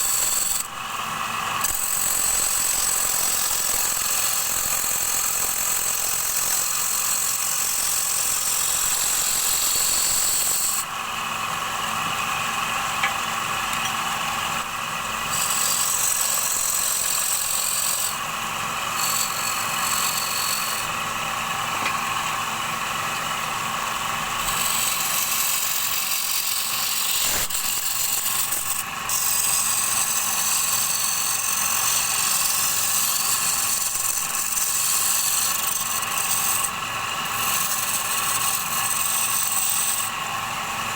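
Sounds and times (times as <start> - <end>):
turning tool cutting wood: 0.0 - 40.9
wood lathe motor hum: 0.0 - 40.9.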